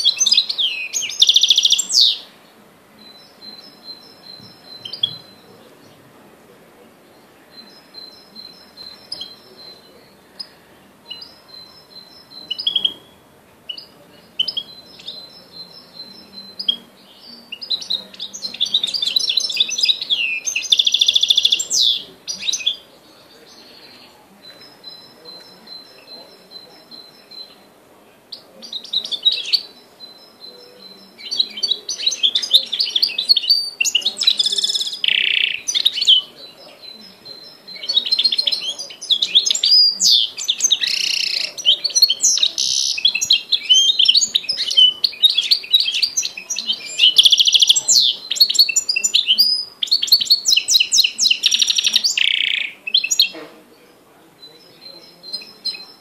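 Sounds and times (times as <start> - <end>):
finch singing trills: 0.0 - 6.1, 6.8 - 56.0.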